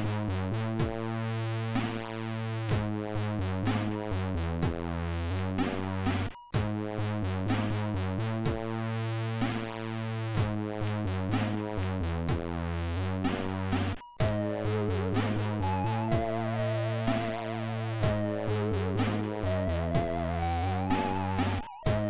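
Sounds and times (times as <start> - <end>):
stepping synth bass line: 0.0 - 22.0.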